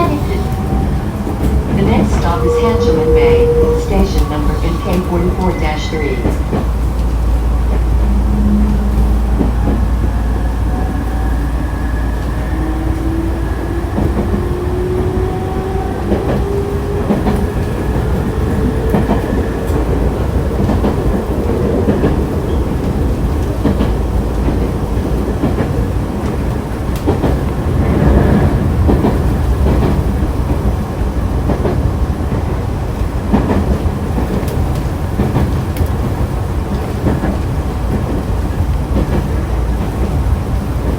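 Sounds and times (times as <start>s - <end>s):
train running noise: 0.0s - 40.9s.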